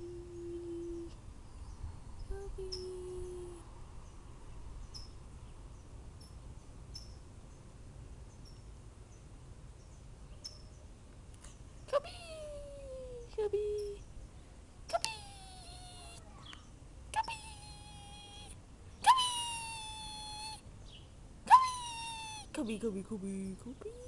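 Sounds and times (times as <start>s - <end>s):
outdoor background noise: 0.0s - 24.0s
small birds chirping: 0.0s - 24.0s.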